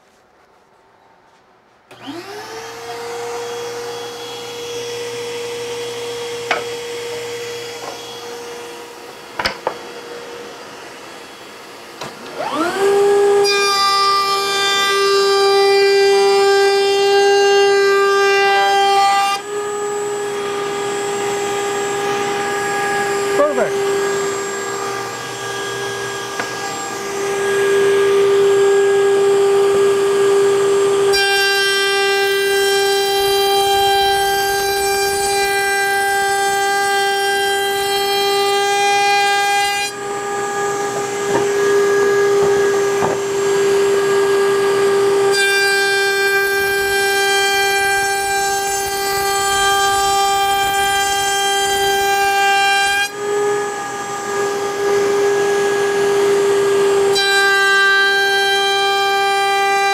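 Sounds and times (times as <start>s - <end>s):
router high whine: 1.9s - 57.6s
router cutting plywood edges: 1.9s - 59.9s.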